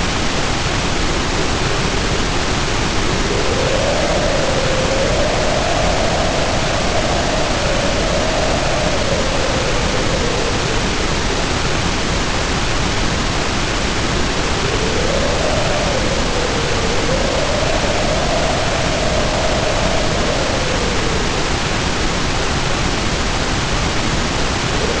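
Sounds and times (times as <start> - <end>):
heavy rain pouring: 0.0 - 25.0
wind howling: 0.0 - 25.0.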